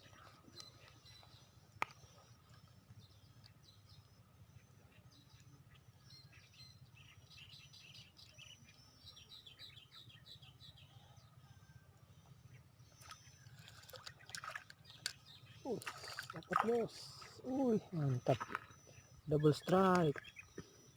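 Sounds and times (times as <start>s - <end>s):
faint bird chirping: 0.0s - 20.9s.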